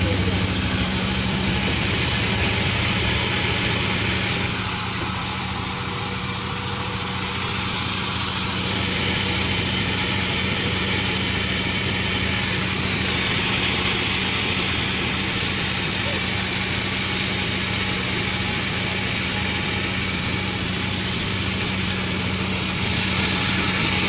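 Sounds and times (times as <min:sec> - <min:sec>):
saw hissing high whine: 0:00.0 - 0:24.0
sawmill engine drone: 0:00.0 - 0:24.0.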